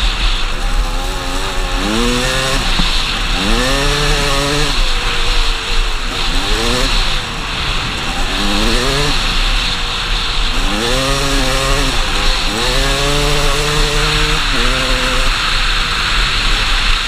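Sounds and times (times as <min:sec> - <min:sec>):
steady rushing noise: 0:00.0 - 0:17.0
two-stroke motorcycle engine revving: 0:00.0 - 0:17.0.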